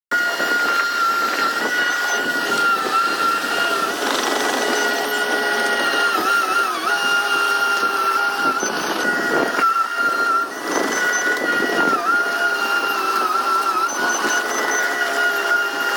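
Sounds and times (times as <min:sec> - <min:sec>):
bulldozer engine: 0:00.1 - 0:15.9
high-pitched whine: 0:00.1 - 0:15.9.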